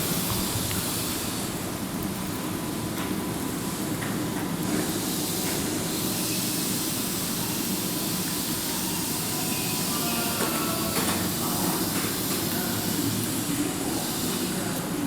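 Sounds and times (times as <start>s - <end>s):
electric train hissing: 0.0s - 15.0s
low train rumble: 0.0s - 15.0s.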